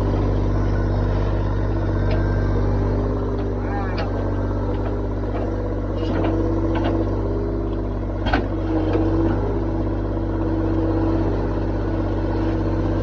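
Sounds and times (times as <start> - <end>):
excavator engine running: 0.0 - 13.0
excavator whine: 0.0 - 13.0.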